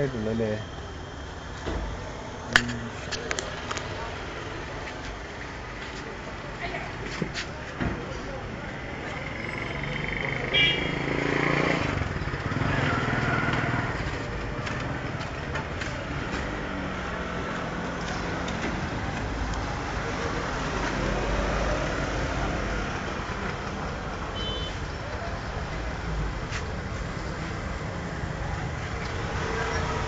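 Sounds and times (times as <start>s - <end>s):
street traffic engines: 0.0s - 30.0s.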